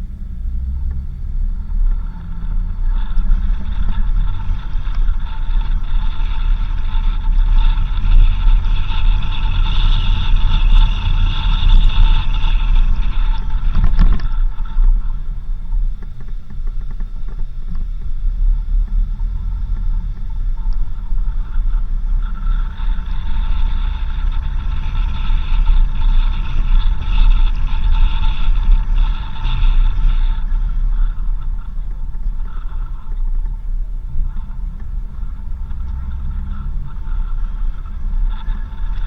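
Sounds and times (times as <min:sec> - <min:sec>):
high whine: 0:00.0 - 0:39.0
short rattle: 0:00.0 - 0:39.0
vehicle rumbling on dirt road: 0:00.0 - 0:39.0.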